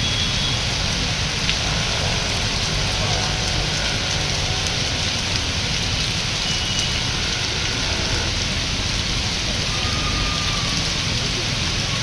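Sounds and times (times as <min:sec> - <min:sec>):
heavy rain pouring on a street: 0:00.0 - 0:12.0.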